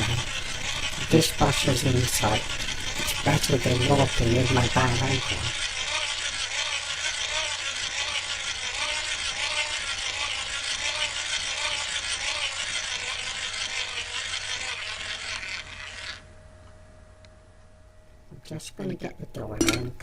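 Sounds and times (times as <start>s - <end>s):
buggy moving with steady hiss: 0.0s - 16.2s
rhythmic squeak of dry buggy: 0.0s - 16.2s.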